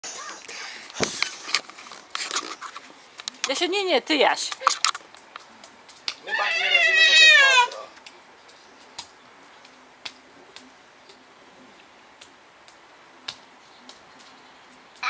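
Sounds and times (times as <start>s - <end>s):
rainwater dripping: 2.8s - 15.0s.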